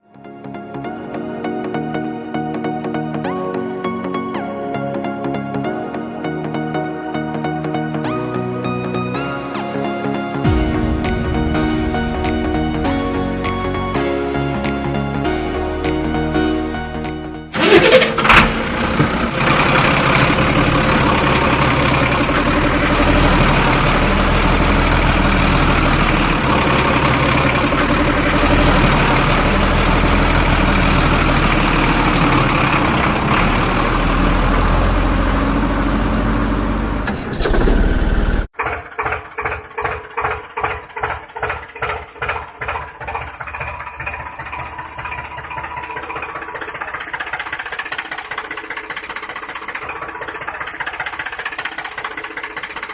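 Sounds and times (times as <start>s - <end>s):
tractor engine running: 10.4s - 52.9s.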